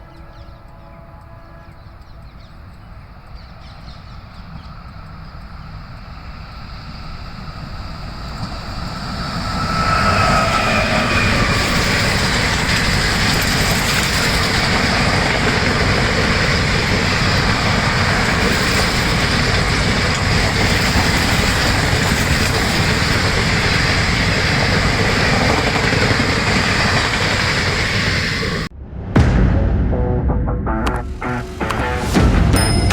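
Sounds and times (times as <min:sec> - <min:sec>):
train passing on rails: 0:00.0 - 0:29.1
wheels clickety-clack: 0:02.0 - 0:28.7.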